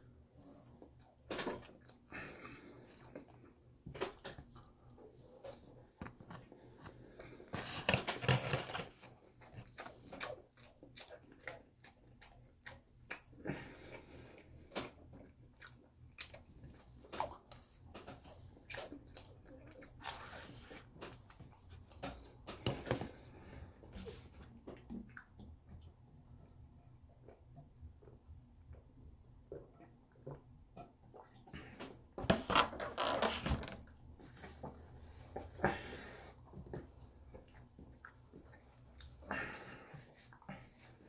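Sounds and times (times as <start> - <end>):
person chewing food: 0.1 - 32.2, 33.7 - 41.0.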